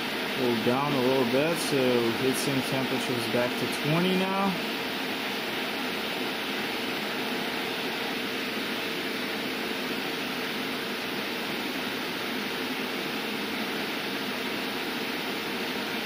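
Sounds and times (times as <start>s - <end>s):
cooling fan rushing air: 0.0s - 16.0s
faint steady hum: 0.0s - 16.0s.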